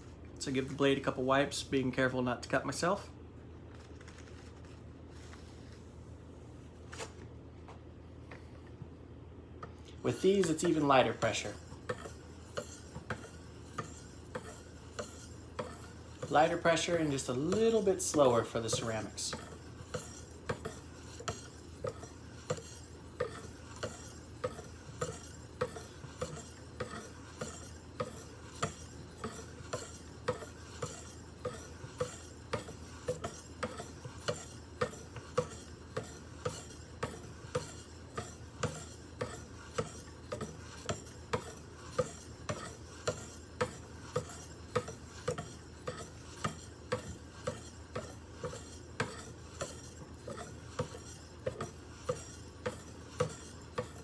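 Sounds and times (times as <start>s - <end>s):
sharpening stone scraping blade: 10.0s - 54.0s.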